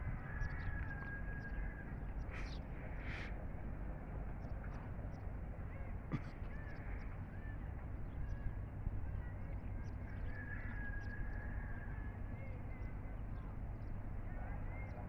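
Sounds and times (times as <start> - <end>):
birds calling: 0.0 - 15.0
steady low rumble: 0.0 - 15.0.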